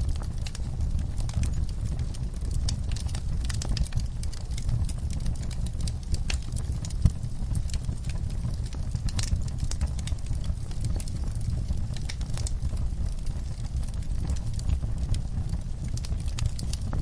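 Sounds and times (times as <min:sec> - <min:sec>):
log fire crackling and popping: 0:00.0 - 0:17.0
low rumble of flames: 0:00.0 - 0:17.0.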